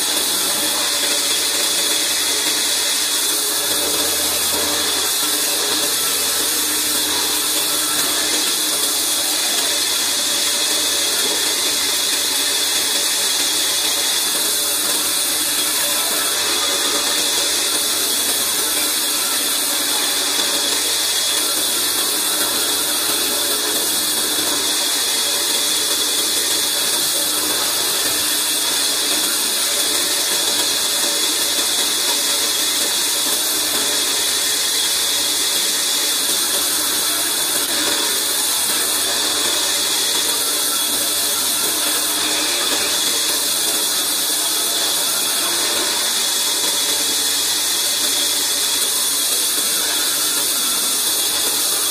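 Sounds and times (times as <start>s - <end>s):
band saw cutting log: 0.0s - 51.9s.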